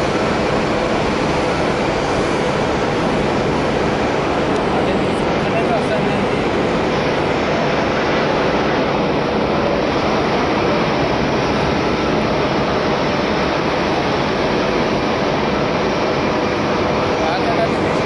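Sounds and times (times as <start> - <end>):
loud jet roar: 0.0 - 18.0.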